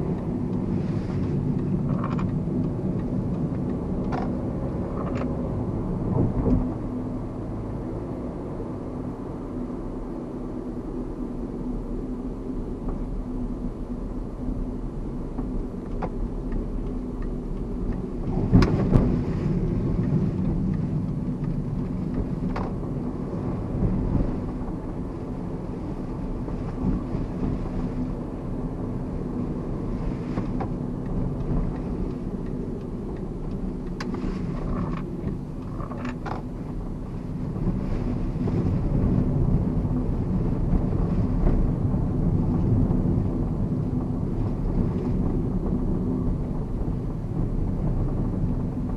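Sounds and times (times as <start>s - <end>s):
car interior road rumble: 0.0s - 48.9s.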